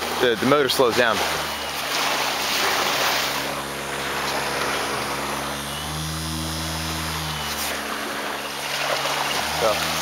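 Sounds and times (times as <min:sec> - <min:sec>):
electric motor whirring hum: 0:00.0 - 0:10.0.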